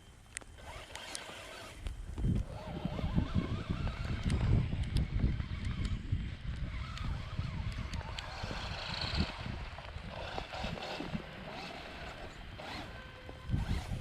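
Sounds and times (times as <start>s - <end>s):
toy truck electric motor whining: 0.6s - 14.0s
wind buffeting microphone: 1.6s - 14.0s.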